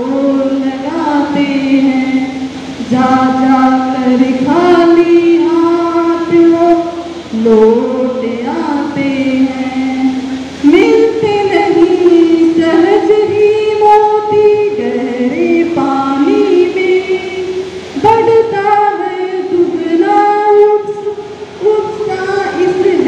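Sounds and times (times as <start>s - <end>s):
woman singing unaccompanied: 0.0s - 23.0s.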